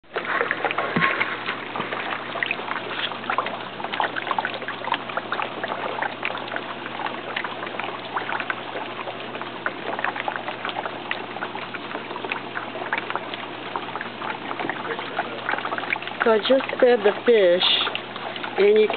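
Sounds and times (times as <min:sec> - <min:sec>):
water trickling and splashing: 0:00.0 - 0:18.9.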